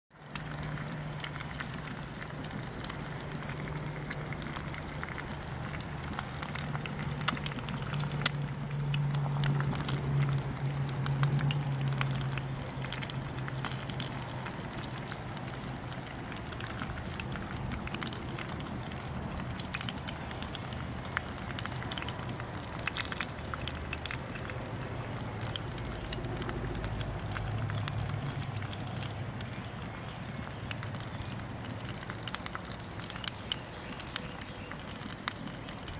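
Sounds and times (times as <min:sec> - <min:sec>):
fat popping and crackling: 0:00.1 - 0:35.9
low steady hum: 0:00.2 - 0:32.2.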